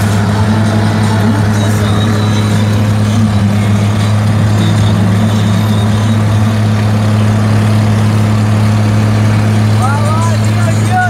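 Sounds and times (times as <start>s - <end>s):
road noise: 0.0s - 11.0s
vehicle engine humming: 0.0s - 11.0s.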